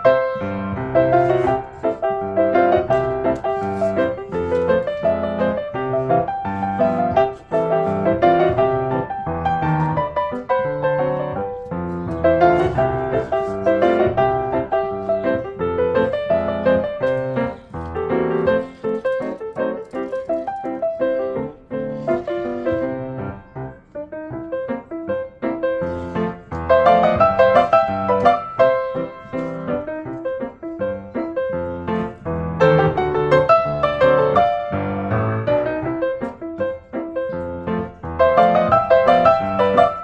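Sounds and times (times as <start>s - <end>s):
solo piano melody: 0.0s - 40.0s.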